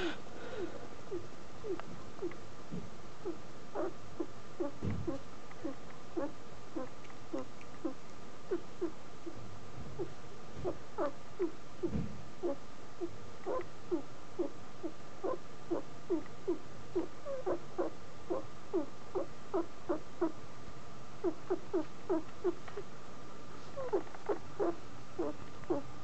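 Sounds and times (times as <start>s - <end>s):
guinea pig squeaking: 1.1s - 2.4s, 3.2s - 9.4s, 10.0s - 20.4s, 21.2s - 22.8s, 23.8s - 25.9s.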